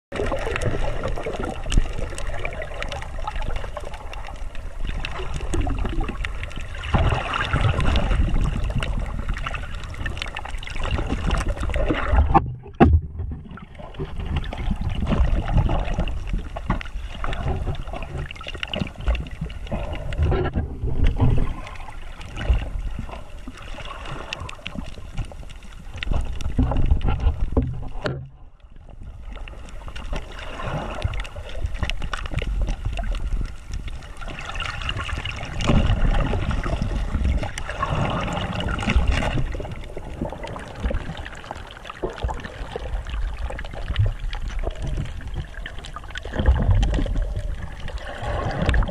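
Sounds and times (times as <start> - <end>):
water splashing and sloshing: 0.1 - 48.9.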